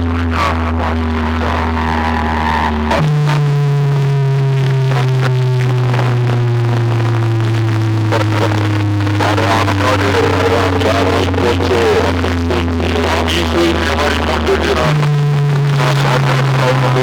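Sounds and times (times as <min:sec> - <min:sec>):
deep bass tone gliding down: 0:00.0 - 0:17.0.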